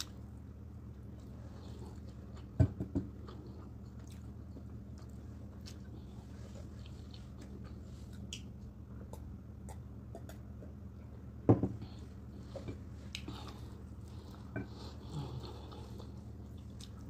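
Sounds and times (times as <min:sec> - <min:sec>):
wet eating and chewing sounds: 0:00.0 - 0:17.0.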